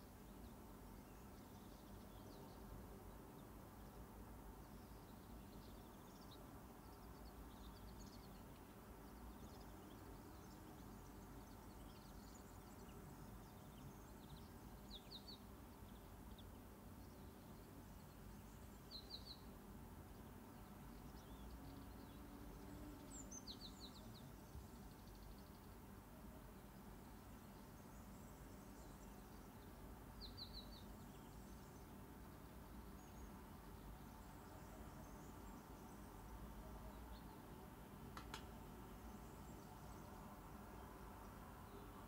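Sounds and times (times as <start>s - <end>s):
faint bird chirps: 0.0s - 37.6s.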